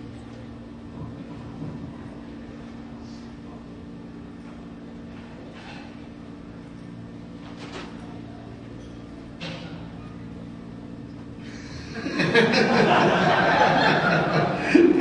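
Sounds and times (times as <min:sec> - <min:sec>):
low steady hall hum: 0:00.0 - 0:15.0.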